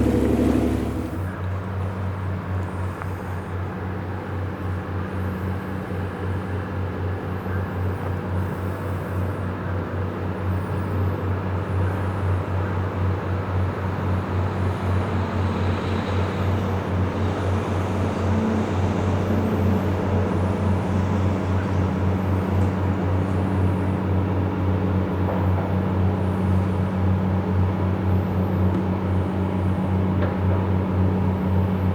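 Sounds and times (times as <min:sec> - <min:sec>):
tugboat diesel engine throbbing: 0:00.0 - 0:02.3, 0:04.6 - 0:31.9.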